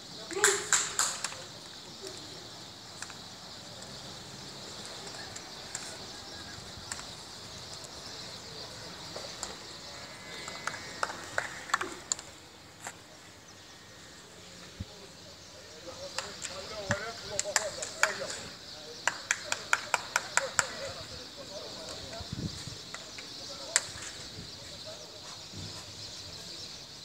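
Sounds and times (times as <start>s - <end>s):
faint distant voices: 0.0s - 27.0s.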